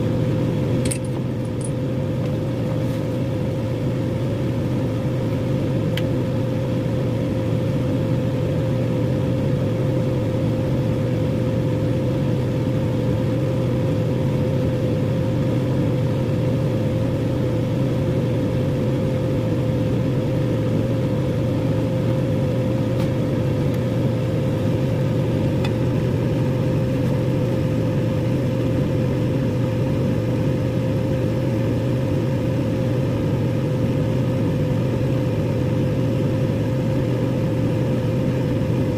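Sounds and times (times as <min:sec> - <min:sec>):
microwave oven humming: 0:00.0 - 0:38.9.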